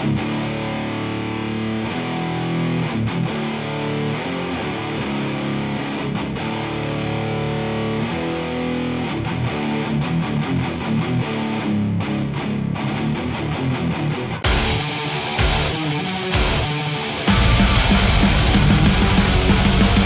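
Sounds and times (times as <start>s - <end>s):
distorted electric guitar chugging: 0.0s - 20.0s.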